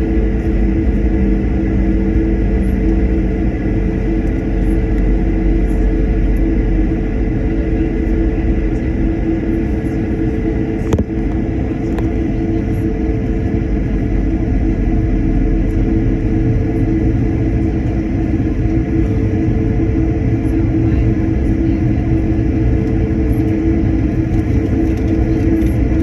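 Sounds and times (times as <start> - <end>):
constant hum: 0.0 - 26.0
jet engine cabin rumble: 0.0 - 26.0.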